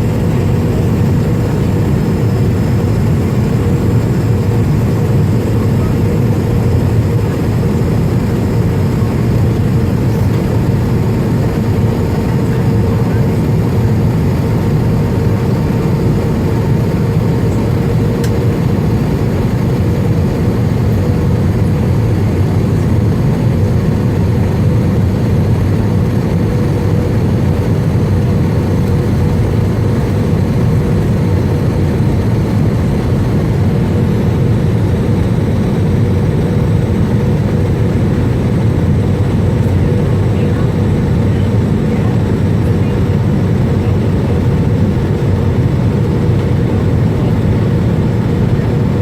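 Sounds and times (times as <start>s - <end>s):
jet engine and airflow rumble: 0.0s - 49.0s.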